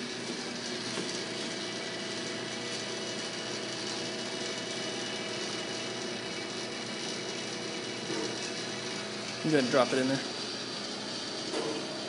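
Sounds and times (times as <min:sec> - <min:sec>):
electric pump motor humming: 0:00.0 - 0:12.0.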